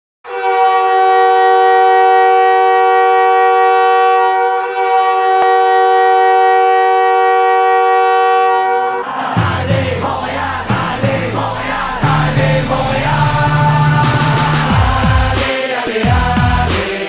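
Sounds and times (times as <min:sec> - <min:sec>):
goal horn blowing chord: 0:00.3 - 0:09.2, 0:10.0 - 0:15.2.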